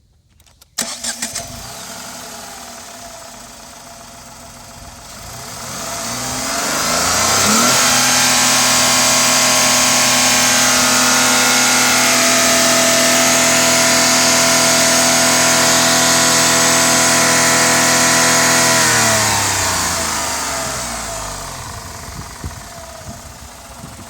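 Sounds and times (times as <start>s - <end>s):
car engine idling and revving: 0.8s - 24.0s.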